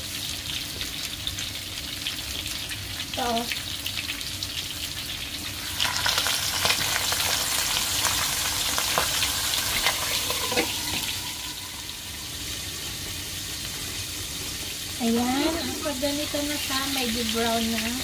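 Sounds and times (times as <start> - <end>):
fish frying in oil: 0.0 - 18.0.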